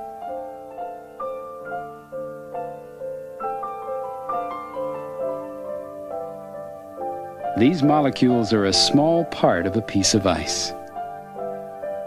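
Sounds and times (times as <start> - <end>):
keyboard playing sustained notes: 0.0 - 12.0.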